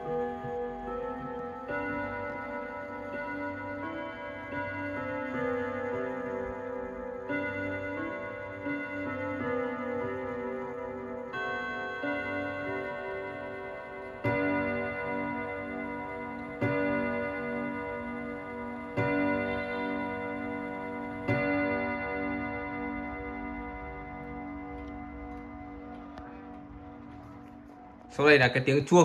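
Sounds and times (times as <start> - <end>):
clock chime tune: 0.0 - 26.8
clock gong hour strikes: 0.0 - 27.9.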